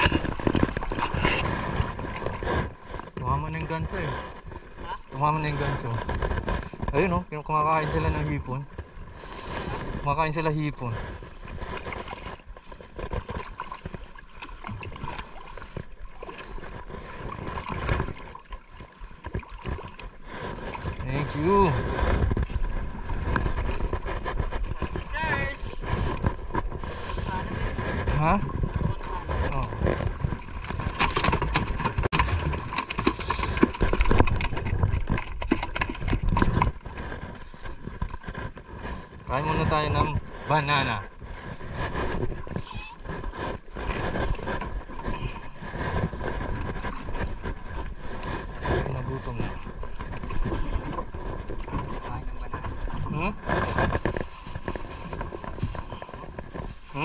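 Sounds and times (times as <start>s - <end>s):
water lapping against boat hull: 0.0s - 57.0s.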